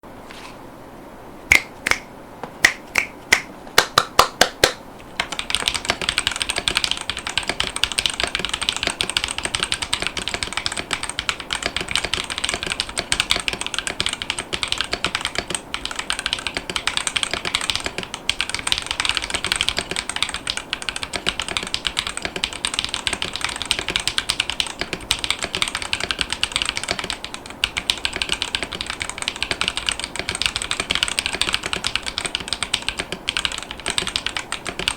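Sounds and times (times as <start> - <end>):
mechanical keyboard typing: 4.6 - 34.9.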